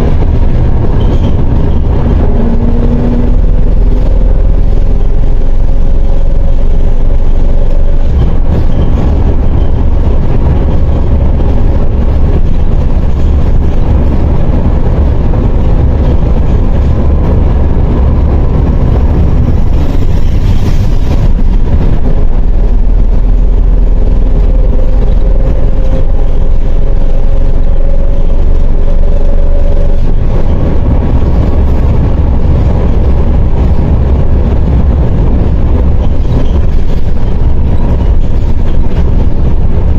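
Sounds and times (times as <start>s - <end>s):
bus diesel engine rumble: 0.0s - 39.9s
rising whine: 0.0s - 39.9s
road noise: 0.0s - 39.9s.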